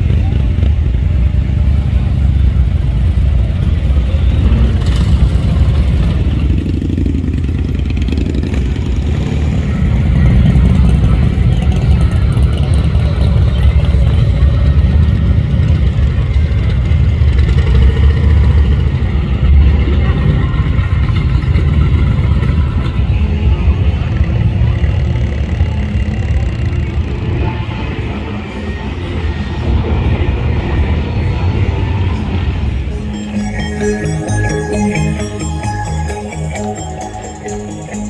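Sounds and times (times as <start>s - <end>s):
motorcycle engines rumbling: 0.0s - 38.0s.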